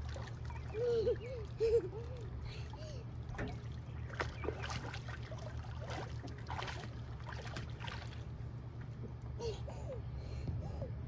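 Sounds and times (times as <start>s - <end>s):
water splashing in a pool: 0.0s - 9.3s
steady low hum: 0.0s - 11.0s.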